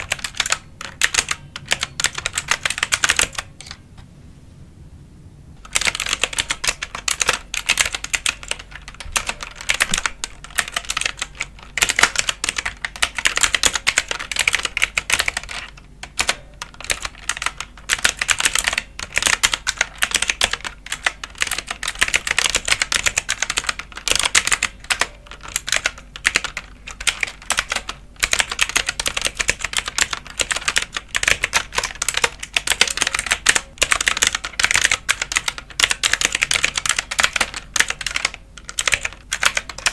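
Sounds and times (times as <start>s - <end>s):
fast typing on computer keyboard: 0.0s - 3.8s, 5.6s - 39.9s.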